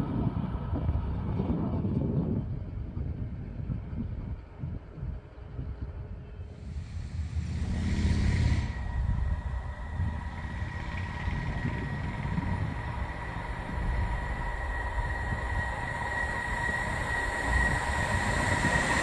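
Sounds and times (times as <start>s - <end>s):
distant freight train hum: 0.0s - 19.0s
wind on microphone: 0.0s - 19.0s.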